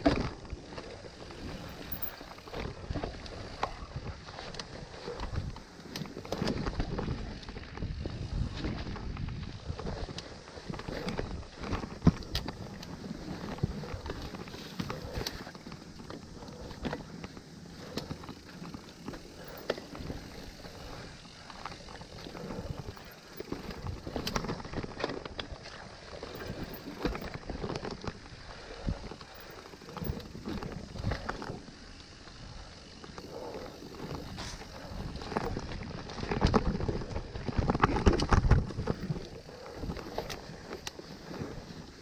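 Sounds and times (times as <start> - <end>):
bike tyres rolling on dirt: 0.0 - 42.0.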